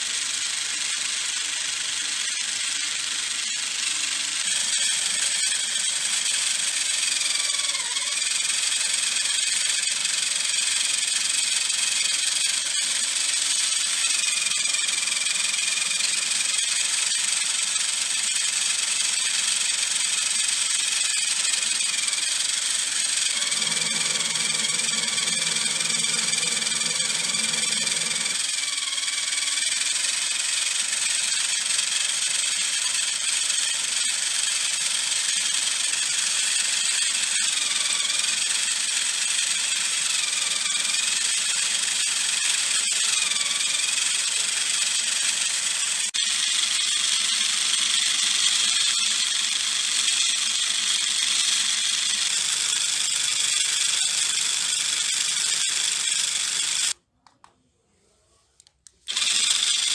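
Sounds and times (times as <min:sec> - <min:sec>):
small motor whining: 0:00.0 - 0:57.0, 0:59.0 - 0:59.9.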